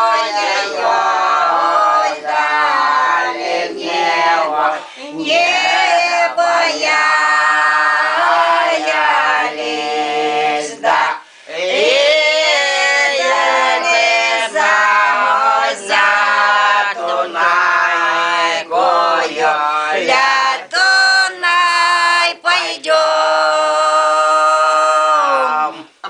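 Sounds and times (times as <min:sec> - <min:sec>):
women singing in close harmony: 0:00.0 - 0:25.9.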